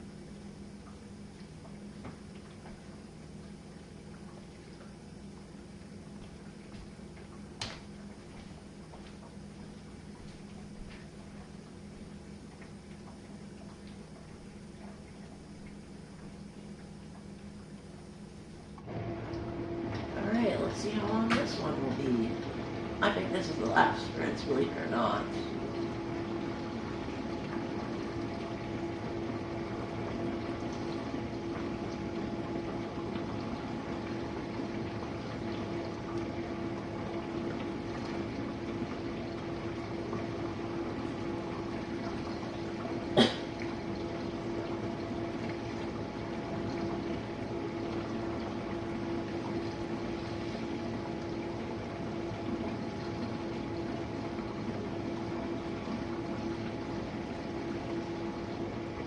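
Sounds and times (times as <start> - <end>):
dishwasher pump hum: 0.0 - 59.0.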